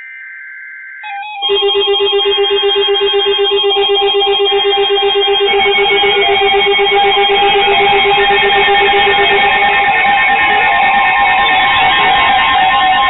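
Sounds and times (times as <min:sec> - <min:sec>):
digital alert data tones: 0:01.0 - 0:13.0
rapid pulsing alarm beeps: 0:01.0 - 0:13.0
warbling alarm tones: 0:01.0 - 0:13.0.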